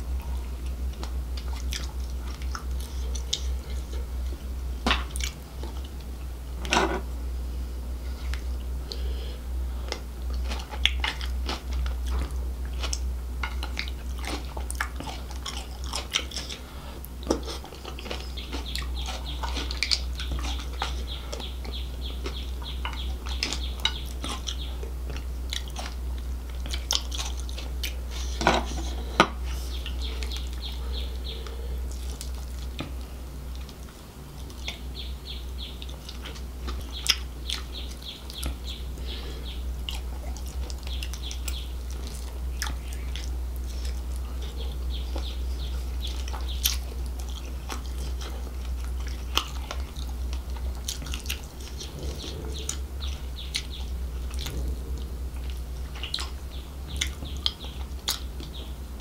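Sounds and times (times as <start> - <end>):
wet chewing with crunchy cracks: 0.0 - 7.1, 9.8 - 59.0
steady low hum: 0.0 - 59.0.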